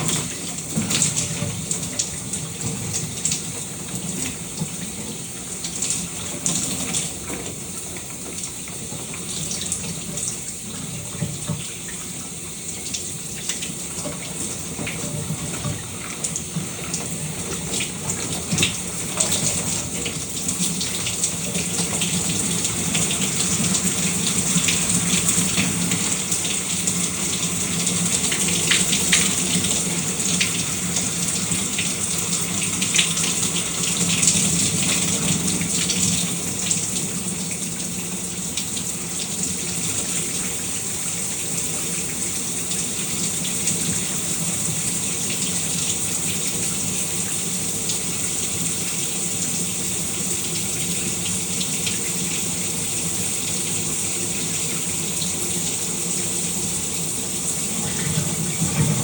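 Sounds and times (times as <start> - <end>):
shower water spraying: 0.0 - 59.0.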